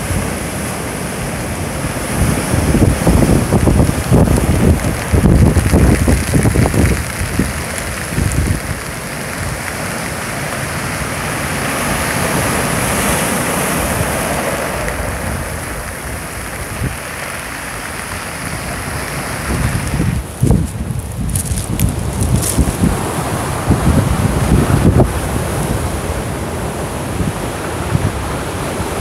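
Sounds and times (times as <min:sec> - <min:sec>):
surf breaking over rocks: 0:00.0 - 0:29.0
wind buffeting microphone: 0:01.4 - 0:29.0.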